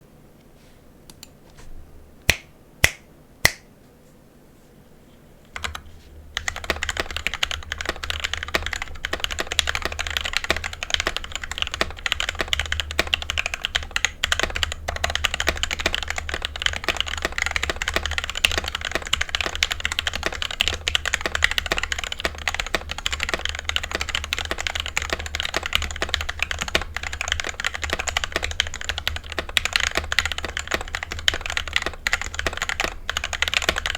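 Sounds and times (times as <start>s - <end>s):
fast typing on mechanical keyboard: 5.6s - 5.8s, 6.4s - 33.9s.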